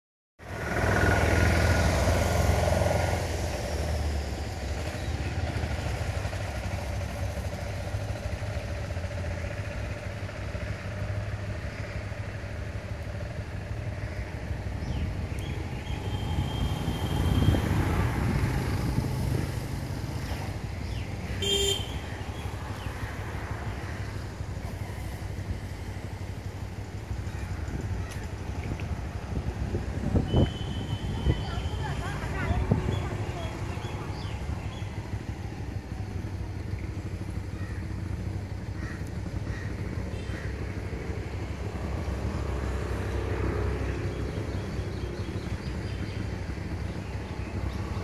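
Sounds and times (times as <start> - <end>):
outdoor background rumble: 0.4 - 48.0.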